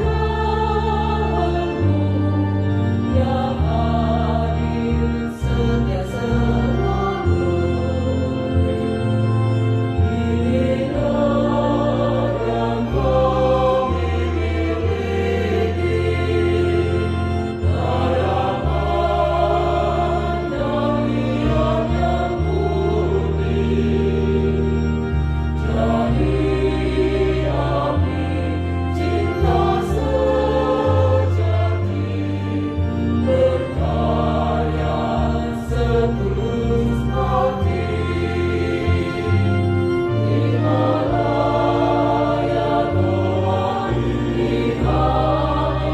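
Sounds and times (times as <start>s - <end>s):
choir singing: 0.0s - 45.9s
low bass notes: 0.0s - 45.9s.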